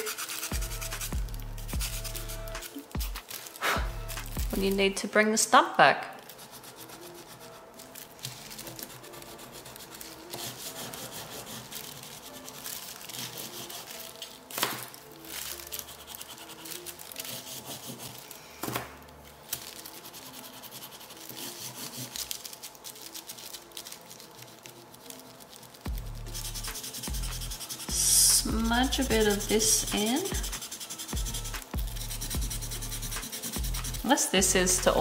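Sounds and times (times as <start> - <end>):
pastel scratching on paper: 0.0 - 4.7, 6.2 - 14.4, 15.2 - 18.4, 19.5 - 35.0
soft background music: 0.0 - 35.0.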